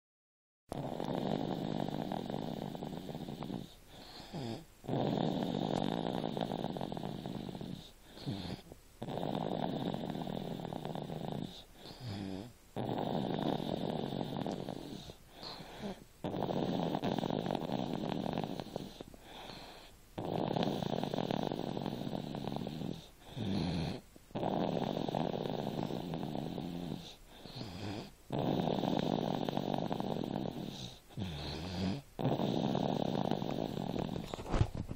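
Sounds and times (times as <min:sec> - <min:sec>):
child snoring: 0:00.7 - 0:34.7
quiet breaths: 0:00.7 - 0:34.9.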